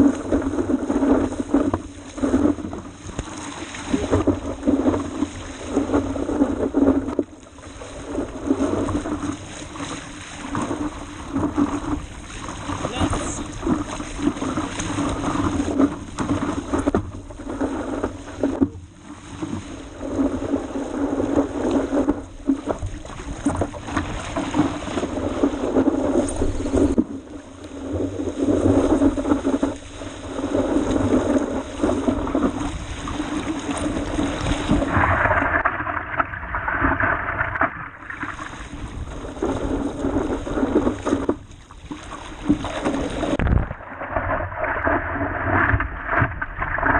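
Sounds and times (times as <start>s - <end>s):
rushing wind: 0.0s - 46.9s
water rushing under a paddleboard: 0.0s - 46.9s.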